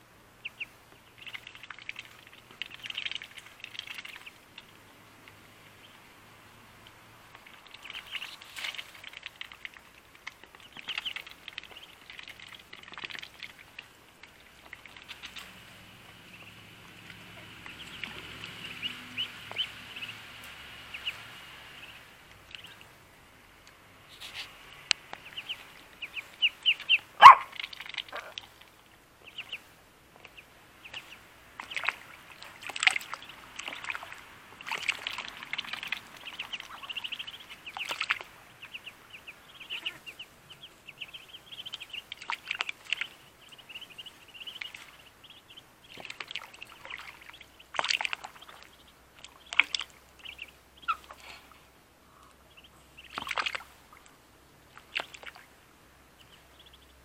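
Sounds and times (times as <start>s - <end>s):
ducklings peeping: 0.3s - 57.0s
duckling splashing in water: 0.4s - 57.0s.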